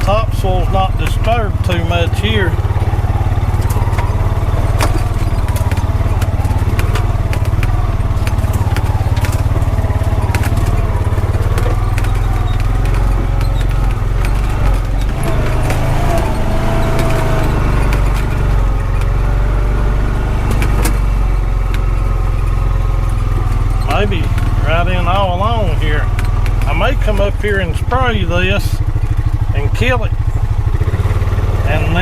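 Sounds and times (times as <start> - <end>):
clicks and rattles: 0.0 - 30.6
single-cylinder engine running: 0.0 - 32.0.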